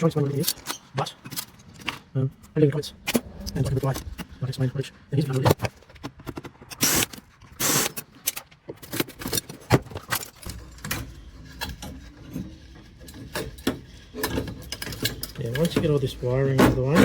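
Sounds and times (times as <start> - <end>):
metal parts clicking and rattling: 0.0 - 4.6, 5.2 - 17.0.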